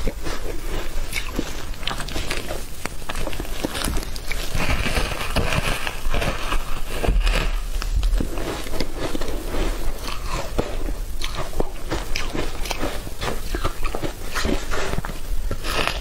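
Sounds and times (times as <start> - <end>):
chewing soft cake: 0.0 - 16.0.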